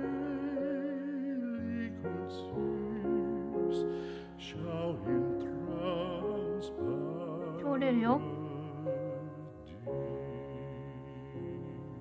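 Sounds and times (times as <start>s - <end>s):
slow gentle piano piece: 0.0s - 12.0s.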